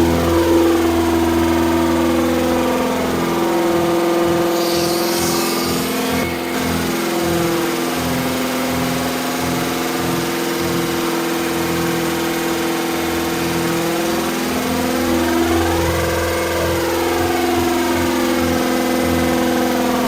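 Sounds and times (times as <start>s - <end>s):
engine idling high: 0.0s - 20.0s.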